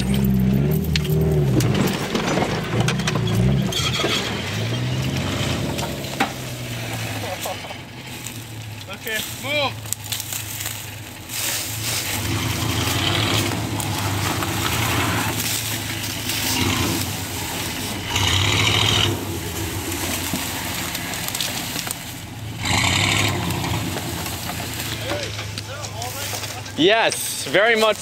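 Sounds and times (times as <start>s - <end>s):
pickup truck engine under load: 0.0s - 28.0s.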